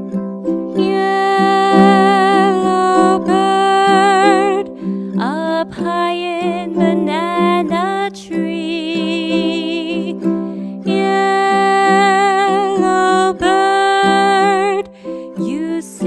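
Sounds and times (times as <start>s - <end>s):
plucked strings: 0.0s - 16.0s
woman singing with vibrato: 0.8s - 16.0s.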